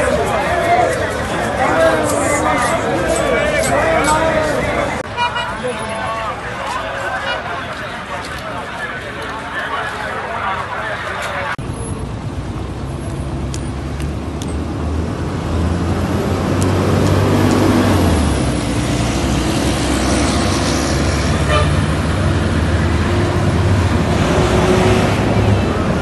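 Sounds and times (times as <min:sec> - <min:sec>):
bus engines humming: 0:00.0 - 0:26.0
road traffic: 0:00.0 - 0:26.0.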